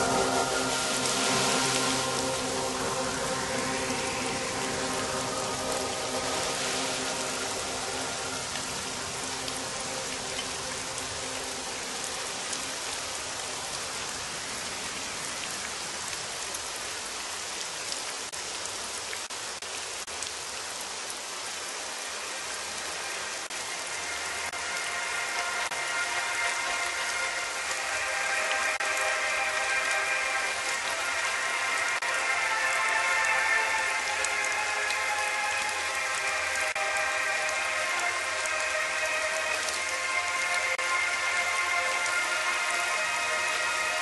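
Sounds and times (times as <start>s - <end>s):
rain-like hiss with ticks: 0.0s - 44.0s.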